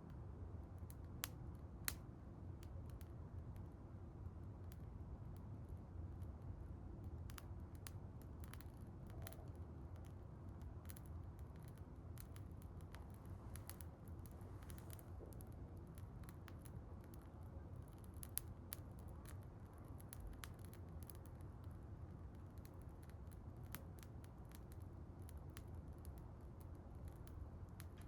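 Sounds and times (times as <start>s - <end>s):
low rumble of burning fire: 0.0s - 28.0s
bonfire crackling and popping: 0.1s - 3.7s, 7.0s - 28.0s.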